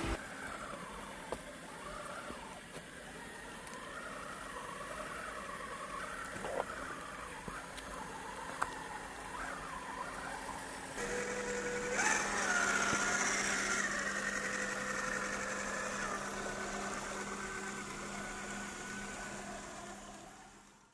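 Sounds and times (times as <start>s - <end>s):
electric motor and gearbox whining: 0.0s - 20.9s.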